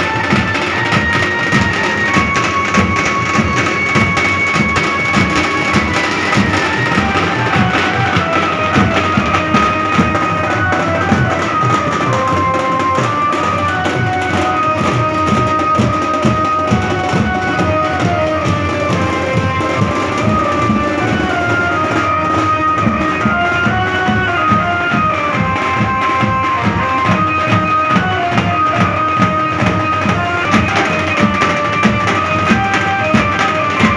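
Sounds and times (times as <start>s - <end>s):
live band music: 0.0s - 33.9s.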